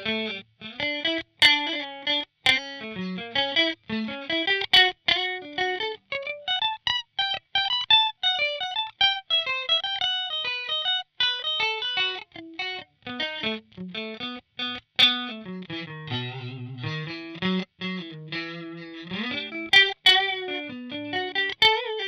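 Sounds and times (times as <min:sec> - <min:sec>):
clean electric guitar lead: 0:00.0 - 0:07.0, 0:09.9 - 0:22.0.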